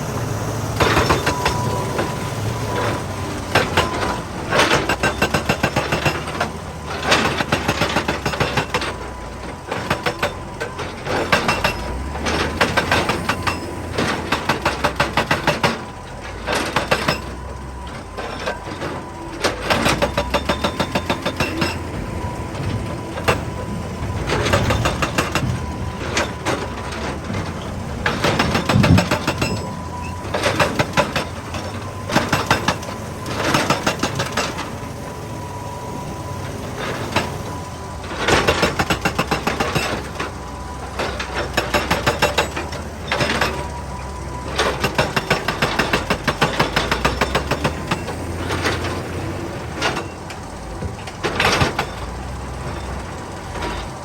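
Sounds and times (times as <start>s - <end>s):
hydraulic breaker hammering rock: 0.0s - 43.8s, 44.4s - 53.0s
diesel engine running: 0.0s - 54.0s.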